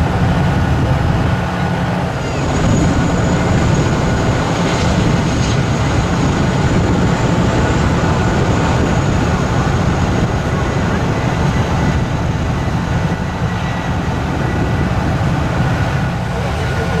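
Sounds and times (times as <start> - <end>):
helicopter rotors rumbling: 0.0 - 17.0
tank engines running: 0.0 - 17.0.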